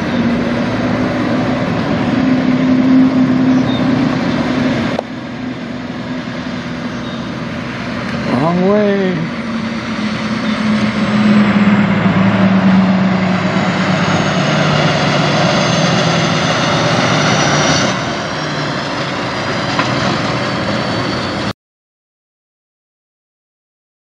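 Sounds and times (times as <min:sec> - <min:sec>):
diesel truck engine drone: 0:00.0 - 0:21.6.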